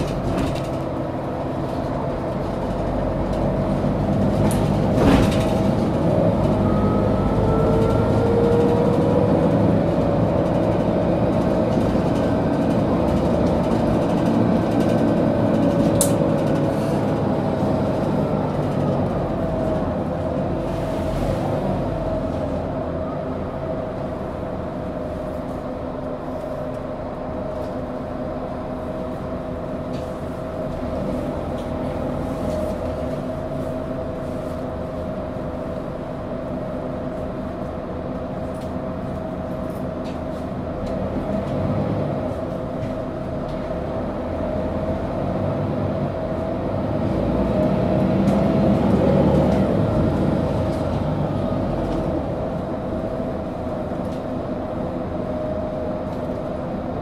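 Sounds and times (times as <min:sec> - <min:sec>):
bus engine whine: 0:00.0 - 0:57.0
road rumble: 0:00.0 - 0:57.0.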